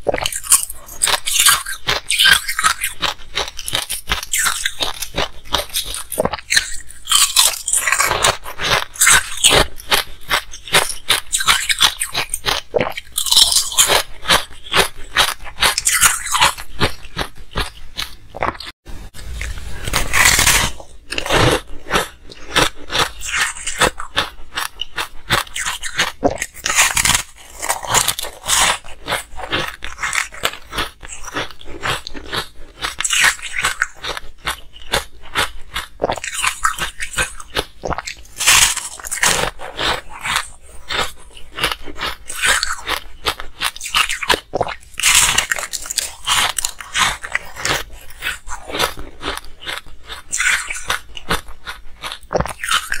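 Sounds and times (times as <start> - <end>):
ice crunching while chewed: 0.0 - 53.0.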